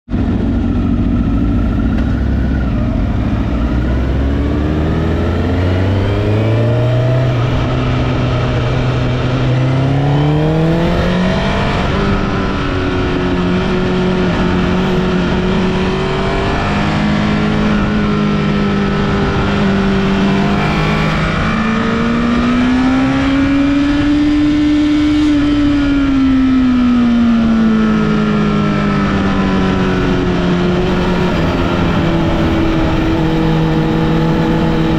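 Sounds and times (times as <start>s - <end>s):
motorcycle engine accelerating: 0.1s - 34.9s
wind and road noise: 0.1s - 34.9s.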